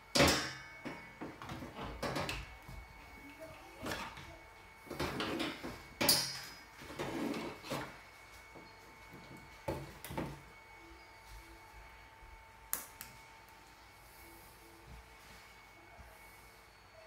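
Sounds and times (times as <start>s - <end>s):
faint steady high whine: 0.0s - 17.0s.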